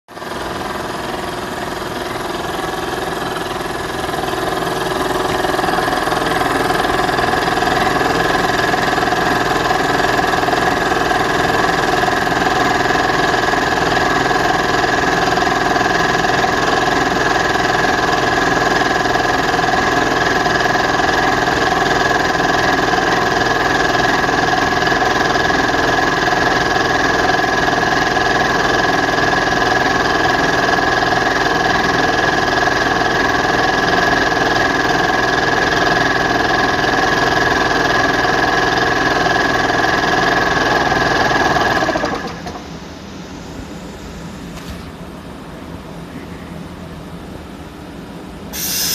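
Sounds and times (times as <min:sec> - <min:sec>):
air compressor running: 0:00.1 - 0:45.2, 0:47.2 - 0:48.9.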